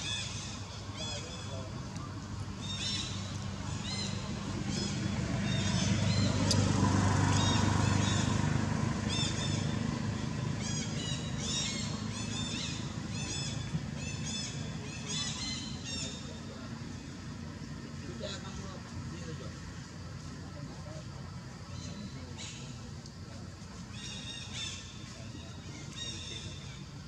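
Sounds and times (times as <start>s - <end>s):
birds chirping: 0.0s - 19.5s, 20.4s - 27.0s
vehicle passing: 0.8s - 27.0s.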